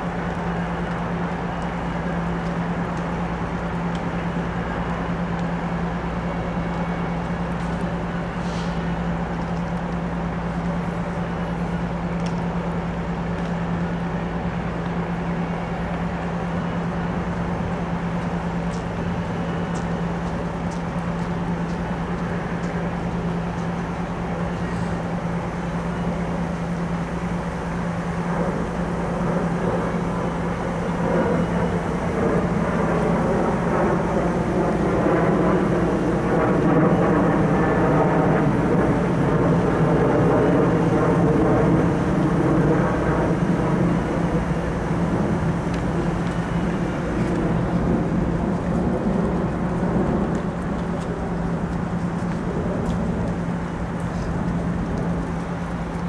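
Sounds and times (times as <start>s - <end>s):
diesel locomotive humming: 0.0s - 56.0s
loud engine sound: 0.0s - 56.0s.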